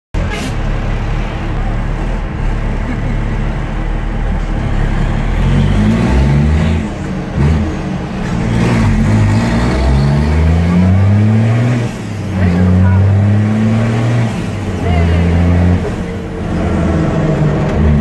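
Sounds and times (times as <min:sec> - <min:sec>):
truck diesel engine revving: 0:00.2 - 0:18.0.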